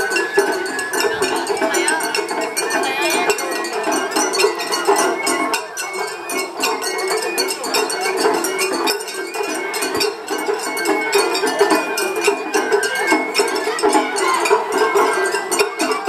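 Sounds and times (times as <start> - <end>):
bamboo flute: 0.0 - 16.0
drums: 0.0 - 16.0.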